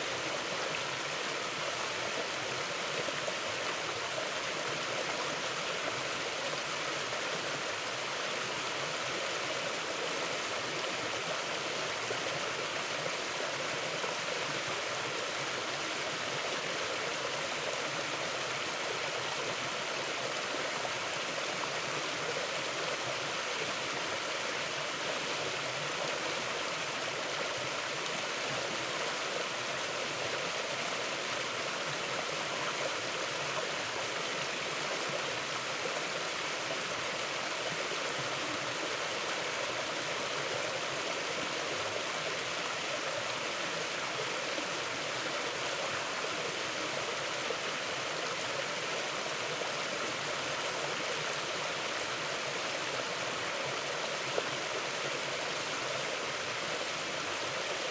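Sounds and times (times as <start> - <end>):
river flowing over rocks: 0.0 - 57.9.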